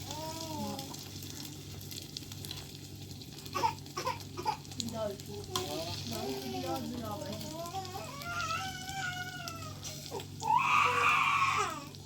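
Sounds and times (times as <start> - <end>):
food sizzling while frying: 0.0 - 12.0.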